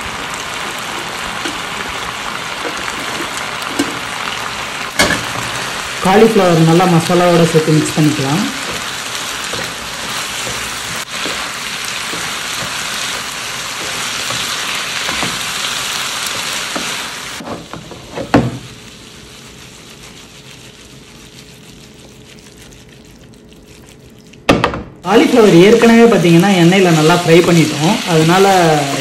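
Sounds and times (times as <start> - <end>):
food sizzling in a frying pan: 0.0 - 29.0.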